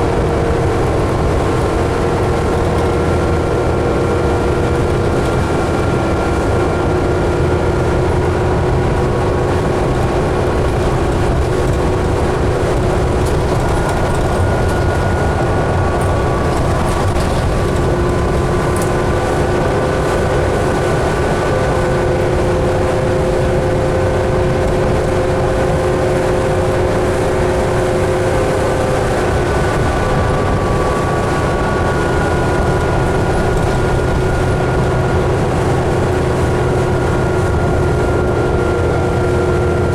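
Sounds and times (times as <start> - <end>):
bus engine and road rumble: 0.0 - 39.9
whining drivetrain tones: 0.0 - 39.9.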